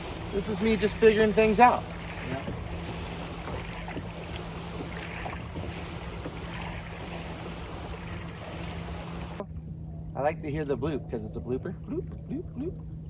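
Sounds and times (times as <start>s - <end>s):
steady low hum: 0.0s - 13.0s
water noise around boat: 0.0s - 13.0s.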